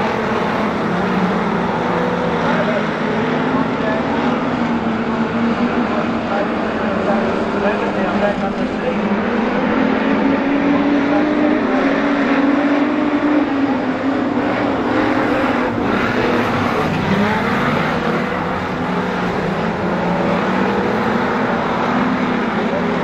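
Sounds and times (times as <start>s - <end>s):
race car engines roaring: 0.0s - 23.0s.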